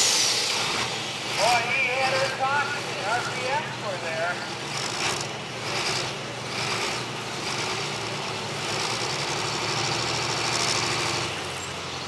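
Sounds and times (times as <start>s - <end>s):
tractor diesel engine at full power: 0.0s - 12.0s.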